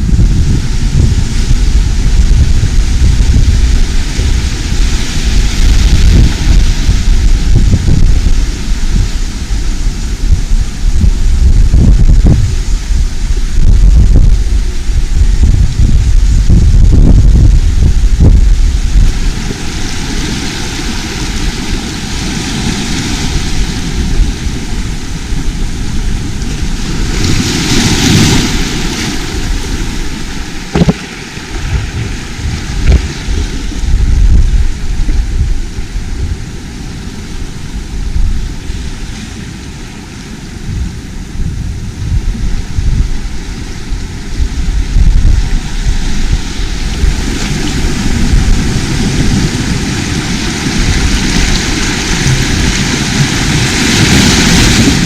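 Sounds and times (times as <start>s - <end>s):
sea: 0.0s - 55.0s
wave washing in: 0.0s - 55.0s
wind buffeting microphone: 0.0s - 55.0s.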